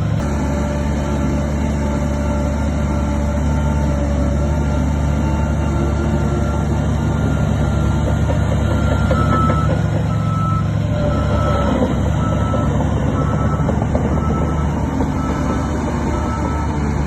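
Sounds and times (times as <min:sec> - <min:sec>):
diesel engine running: 0:00.0 - 0:17.0
reversing alarm beeping: 0:00.2 - 0:17.0.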